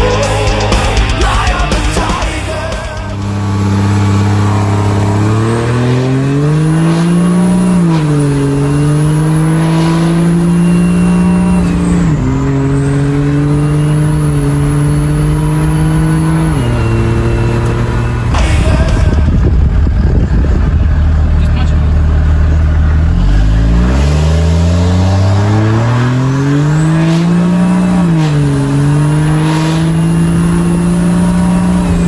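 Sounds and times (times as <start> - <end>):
diesel truck engine under load: 0.0 - 32.0.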